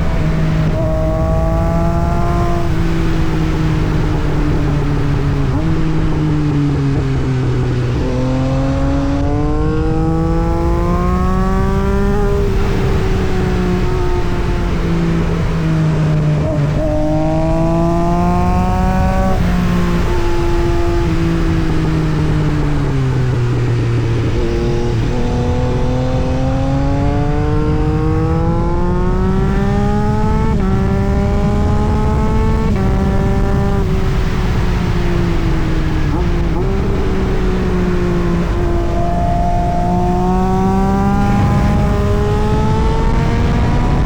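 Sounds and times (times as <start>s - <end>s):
motorcycle engine shifting gears: 0.0s - 44.0s.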